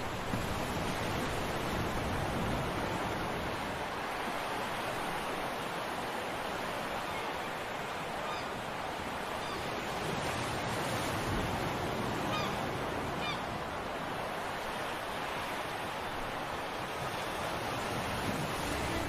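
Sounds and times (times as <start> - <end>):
sea waves on rocky shore: 0.0 - 19.0.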